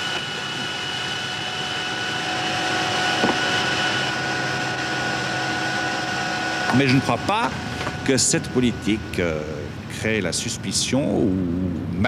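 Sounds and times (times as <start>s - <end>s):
jet engine running: 0.0s - 12.0s.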